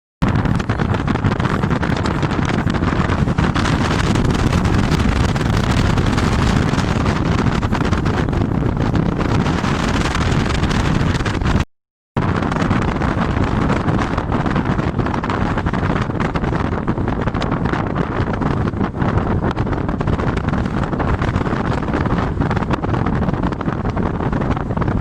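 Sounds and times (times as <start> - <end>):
moving vehicle rumble: 0.2 - 11.6, 12.2 - 25.0
wind buffeting microphone: 0.2 - 11.6, 12.2 - 25.0.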